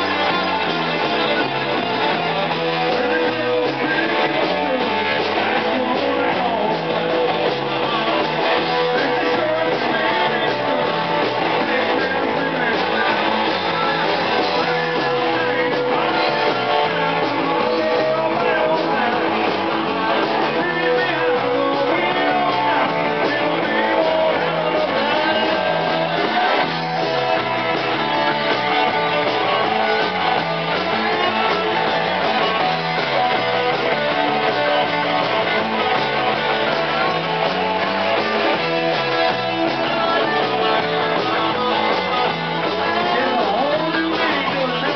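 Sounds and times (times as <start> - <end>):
drums: 0.0 - 44.9
electric bass: 0.0 - 44.9
electric guitar: 0.0 - 44.9.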